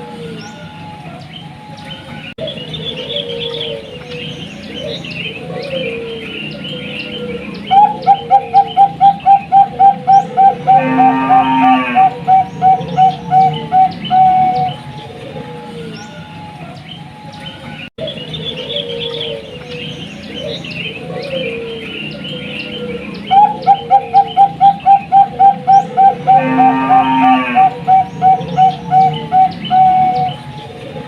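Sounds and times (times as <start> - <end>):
small birds chirping: 0.0 - 11.0, 11.8 - 31.0
dove cooing: 0.0 - 31.0.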